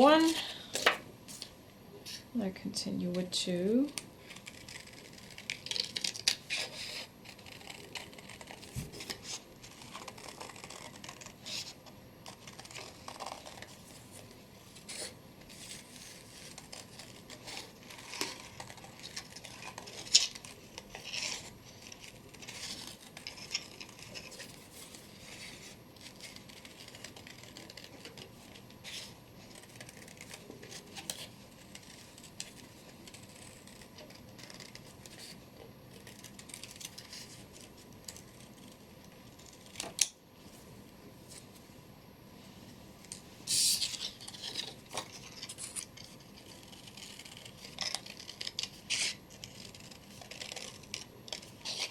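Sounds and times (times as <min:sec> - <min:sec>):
scissors cutting paper: 0:03.8 - 0:40.1, 0:43.5 - 0:51.9.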